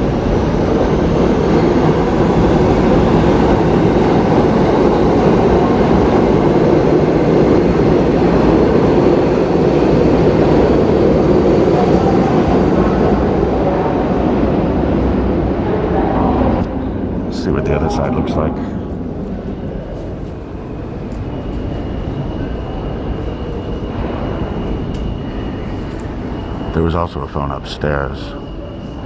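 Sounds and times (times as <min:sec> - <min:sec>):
subway train rumbling: 0:00.0 - 0:29.0.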